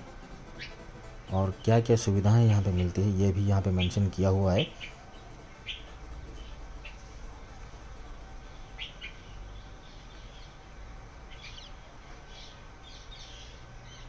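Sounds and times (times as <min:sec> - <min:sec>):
low steady rumble: 0:00.0 - 0:14.0
small birds chirping: 0:00.5 - 0:14.0.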